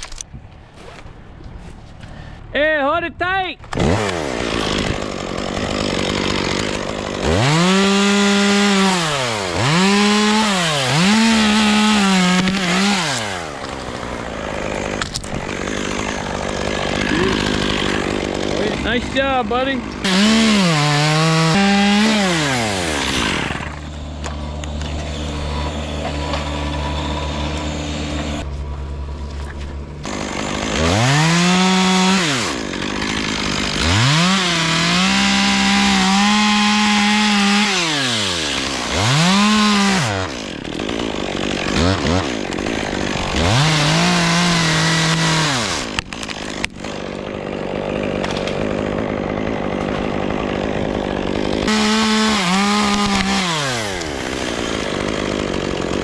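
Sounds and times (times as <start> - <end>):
chainsaw revving and cutting wood: 3.6 - 56.0.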